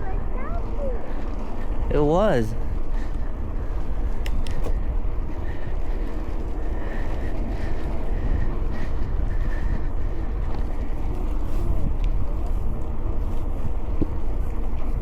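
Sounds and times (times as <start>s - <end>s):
bike rolling rumble: 0.0s - 15.0s
wind buffeting microphone: 0.0s - 15.0s.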